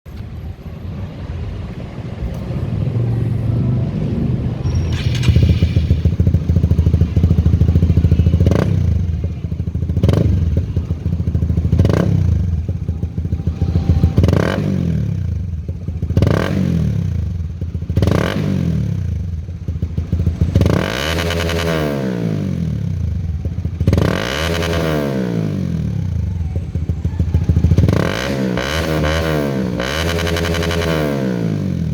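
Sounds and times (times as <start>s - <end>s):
motorcycle throttle blips: 2.2s - 31.9s
motorcycle engine revving: 2.3s - 31.9s
motorcycle engine idling: 2.5s - 31.9s.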